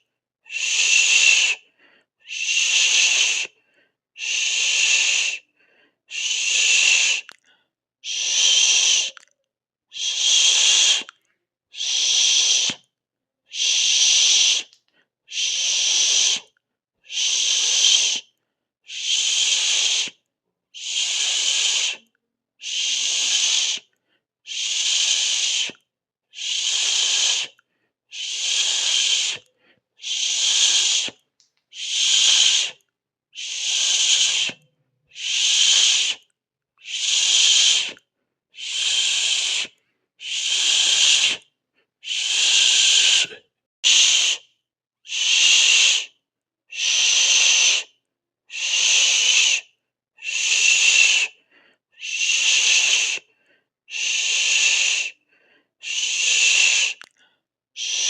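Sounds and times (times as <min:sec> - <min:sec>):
person hissing shhh: 0:00.5 - 0:07.4, 0:08.0 - 0:09.2, 0:09.9 - 0:12.8, 0:13.5 - 0:18.3, 0:18.9 - 0:20.2, 0:20.8 - 0:23.9, 0:24.5 - 0:44.5, 0:45.1 - 0:58.0.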